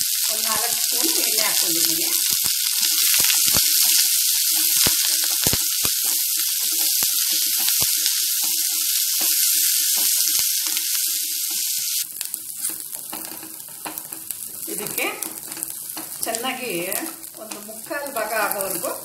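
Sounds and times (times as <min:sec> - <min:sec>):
onions sizzling in hot oil: 0:00.0 - 0:19.0
wooden spatula scraping a pan: 0:02.7 - 0:19.0.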